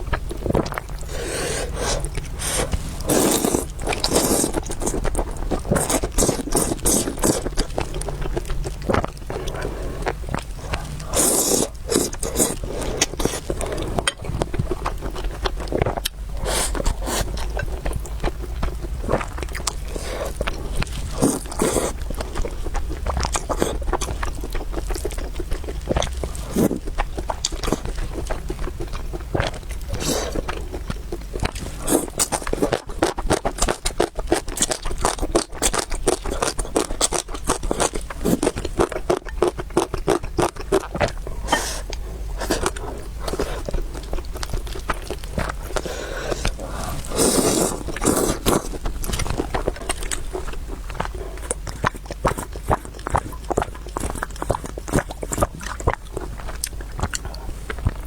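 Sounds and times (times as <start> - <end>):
chewing and biting: 0.0 - 58.0.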